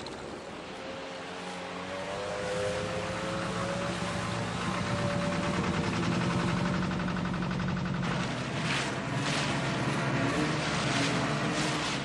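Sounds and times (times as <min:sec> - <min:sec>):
boat motors droning: 0:00.0 - 0:12.0.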